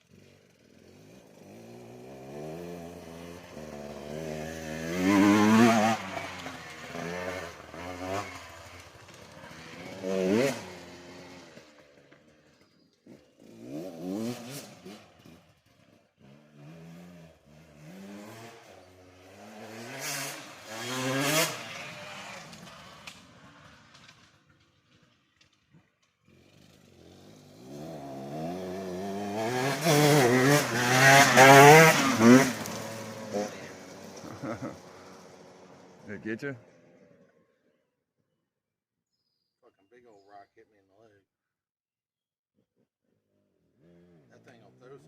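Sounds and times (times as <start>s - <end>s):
dirt bike engine revving: 0.0s - 25.1s, 26.2s - 37.6s, 43.8s - 45.0s.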